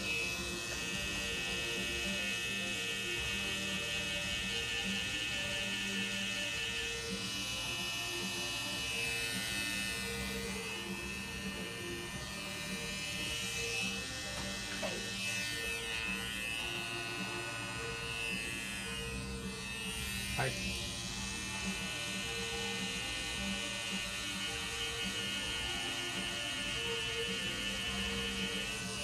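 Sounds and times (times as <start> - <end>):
tattoo machine buzzing: 0.0 - 29.0.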